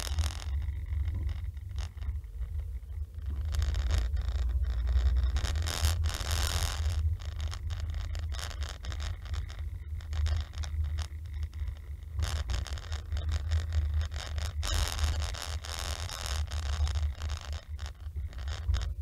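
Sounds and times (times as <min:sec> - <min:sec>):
road and engine rumble: 0:00.0 - 0:19.0
ticks and rattles: 0:00.0 - 0:19.0.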